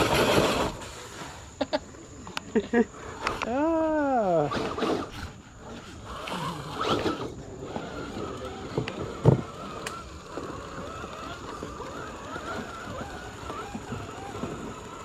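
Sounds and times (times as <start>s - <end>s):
electric motor and gears whining: 0.0s - 1.6s, 3.0s - 15.0s.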